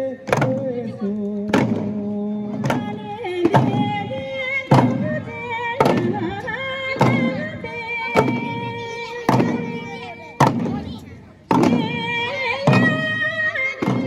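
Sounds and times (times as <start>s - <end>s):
frame drum beats: 0.2s - 14.0s.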